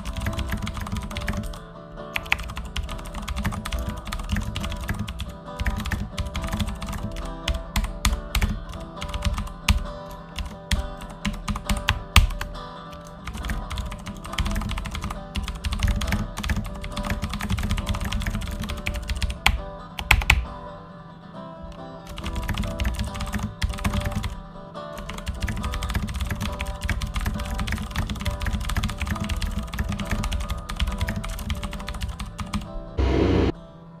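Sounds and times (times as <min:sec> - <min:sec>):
computer keyboard typing: 0:00.0 - 0:01.6, 0:02.2 - 0:20.4, 0:22.1 - 0:24.4, 0:25.0 - 0:32.7
background music with held low notes: 0:00.0 - 0:34.0.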